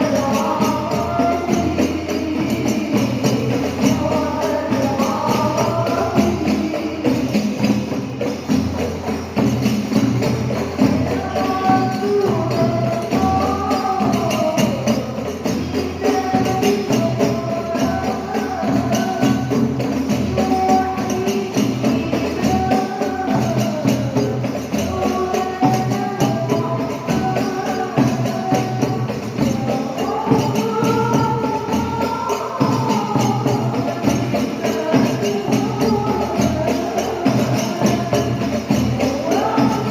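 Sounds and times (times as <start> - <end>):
frame drums with jingles: 0.0 - 39.9
women singing: 0.0 - 39.9.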